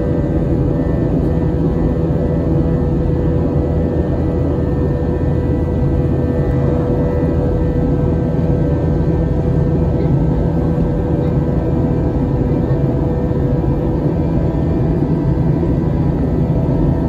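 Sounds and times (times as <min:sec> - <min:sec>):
jet cabin engine rush: 0:00.0 - 0:17.0.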